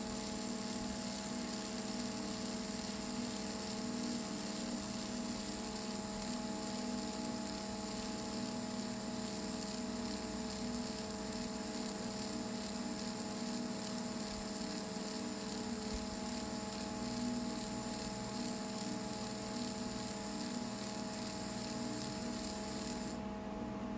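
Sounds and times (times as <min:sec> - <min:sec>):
small electric motor humming: 0:00.0 - 0:23.2.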